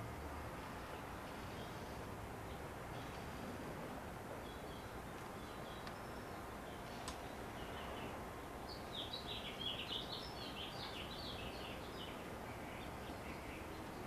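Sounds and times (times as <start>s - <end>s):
outdoor background noise: 0.0s - 14.0s
bird chirping: 0.6s - 3.6s, 4.3s - 14.0s.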